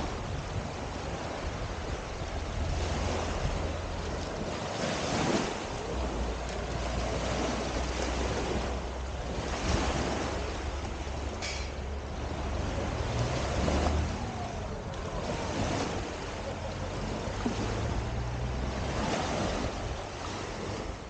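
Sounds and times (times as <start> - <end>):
small waves breaking on beach: 0.0 - 21.0
wind rumbling on microphone: 0.0 - 21.0.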